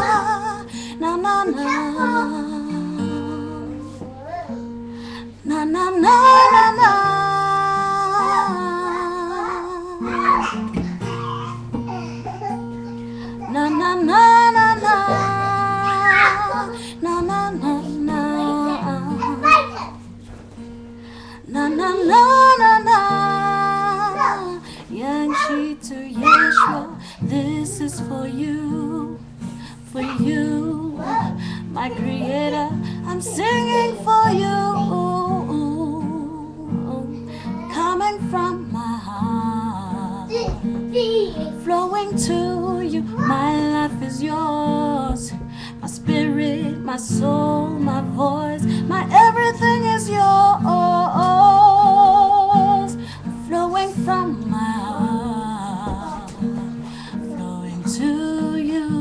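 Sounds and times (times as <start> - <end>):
woman singing: 0.0 - 11.2, 13.0 - 40.8, 41.5 - 59.0
acoustic guitar: 0.0 - 59.0.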